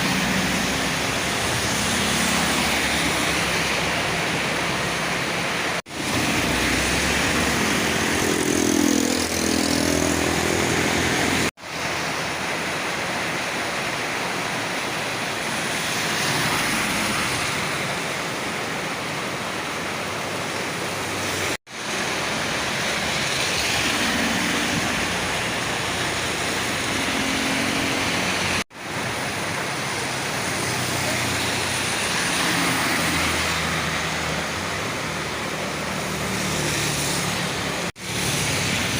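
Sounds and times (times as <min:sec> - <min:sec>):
heavy rain: 0:00.0 - 0:38.9
tyres hissing on wet road: 0:00.0 - 0:38.9.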